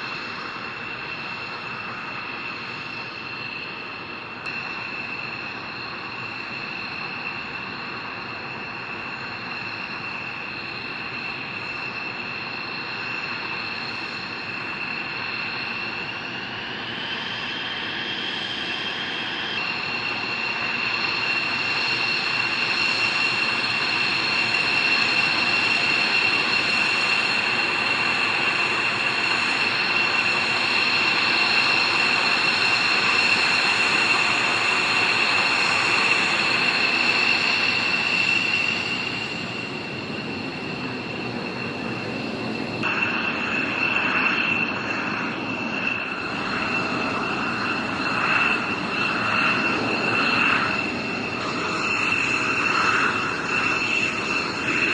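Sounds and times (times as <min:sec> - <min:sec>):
jet engine roar with high whine: 0:00.0 - 0:54.9.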